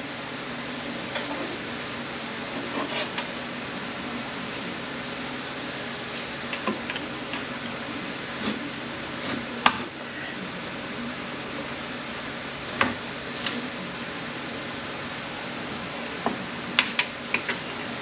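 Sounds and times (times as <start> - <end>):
fan hum: 0.0 - 18.0.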